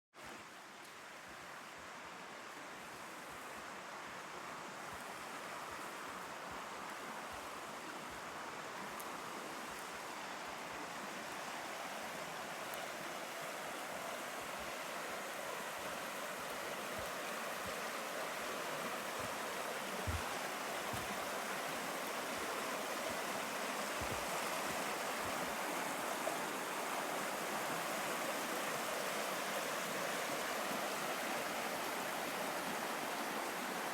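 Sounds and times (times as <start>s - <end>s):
rushing water: 0.2s - 33.9s.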